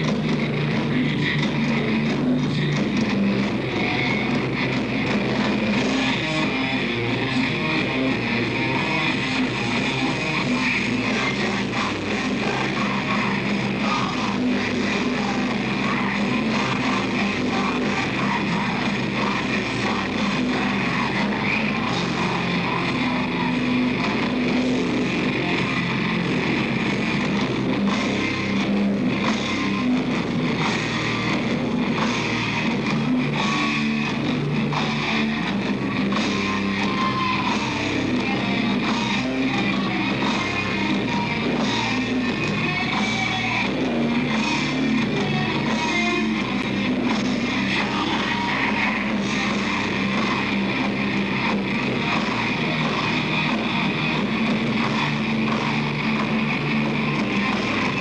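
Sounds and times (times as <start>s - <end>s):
distorted electric guitars: 0.0s - 58.0s
drum kit: 0.0s - 58.0s.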